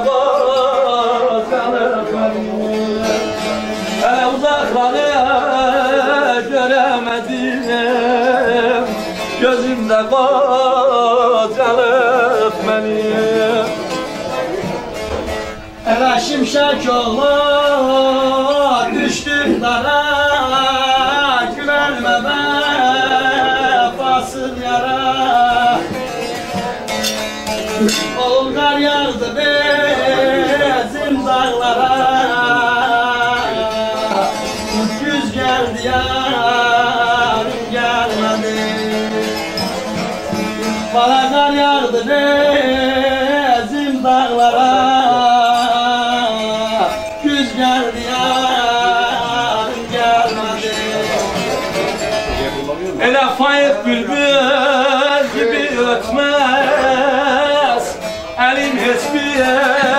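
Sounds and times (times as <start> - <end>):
long-necked lutes playing melody: 0.0 - 59.9.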